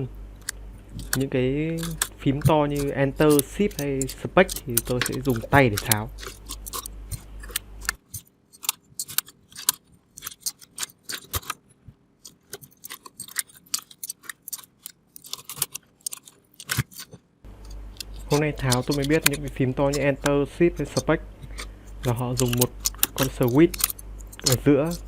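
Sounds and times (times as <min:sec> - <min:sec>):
plastic keycaps clicking: 0:00.4 - 0:11.6, 0:12.2 - 0:17.2, 0:17.9 - 0:25.0.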